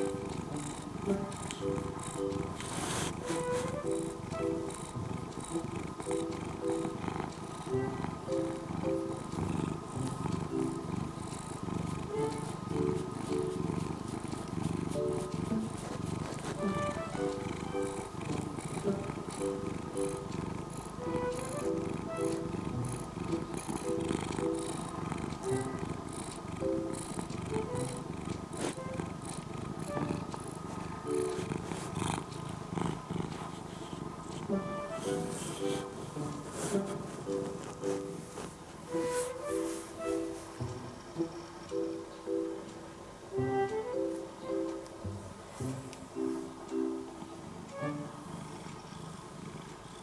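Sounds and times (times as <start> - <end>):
light background music: 0.0 - 49.0
cat purring: 0.0 - 50.0.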